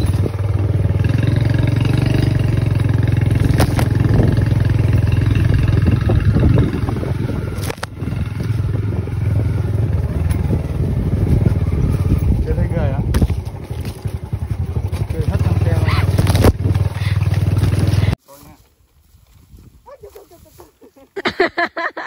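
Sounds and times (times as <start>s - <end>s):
small motorbike engine running: 0.0s - 18.2s.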